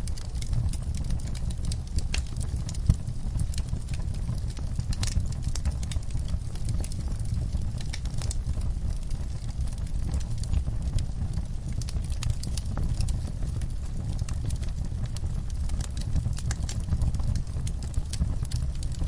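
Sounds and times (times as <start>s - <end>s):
low rumble of flames: 0.0s - 19.0s
sharp snaps and pops: 0.0s - 19.0s
wood fire crackling: 0.0s - 19.0s.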